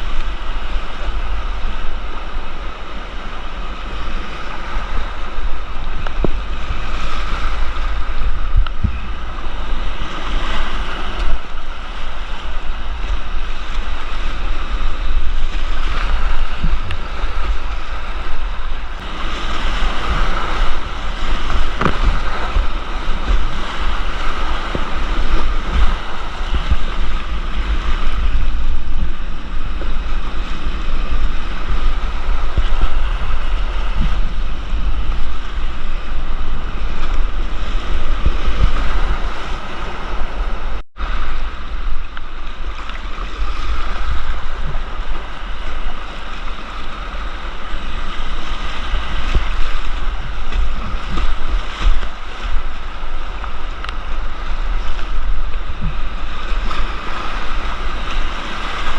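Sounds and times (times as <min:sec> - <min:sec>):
rushing whitewater: 0:00.0 - 0:58.9
wind buffeting microphone: 0:00.0 - 0:58.9.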